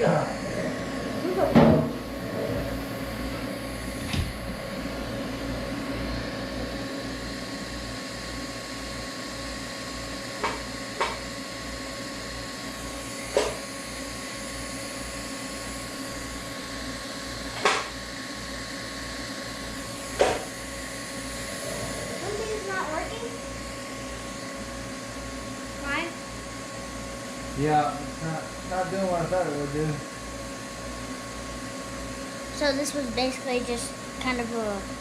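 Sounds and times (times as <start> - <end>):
welder electrical hum: 0.0 - 35.0.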